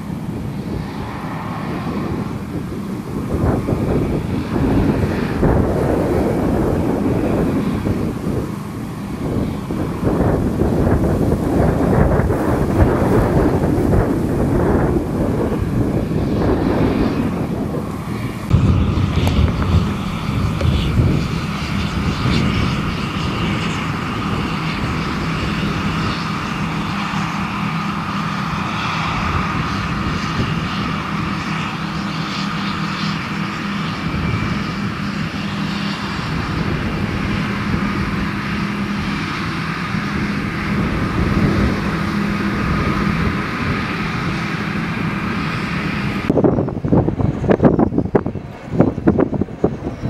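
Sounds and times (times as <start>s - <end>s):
combine harvester droning: 0.0s - 50.0s.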